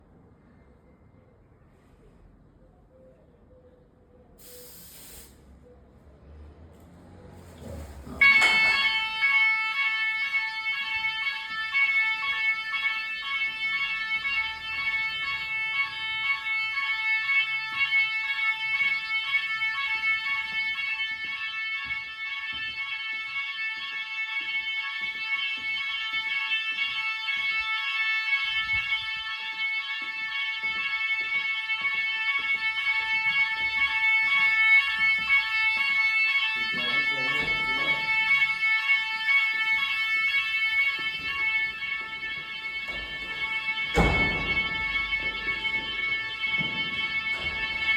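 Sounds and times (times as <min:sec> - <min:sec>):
fire alarm shrill tone: 0:04.4 - 0:05.5, 0:07.7 - 0:47.9.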